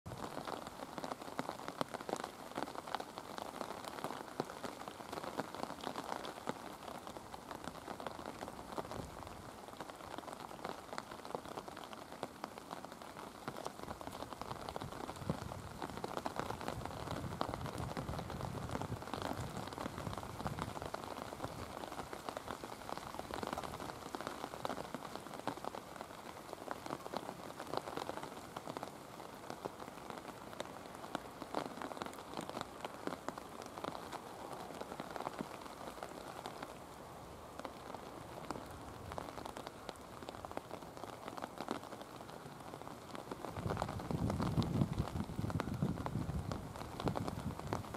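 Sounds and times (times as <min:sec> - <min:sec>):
rain pattering: 0:00.1 - 0:47.9.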